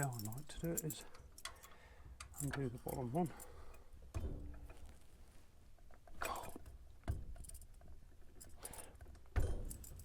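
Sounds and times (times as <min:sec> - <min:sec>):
tool clicking and knocking on metal: 0:00.0 - 0:05.0, 0:05.7 - 0:10.0.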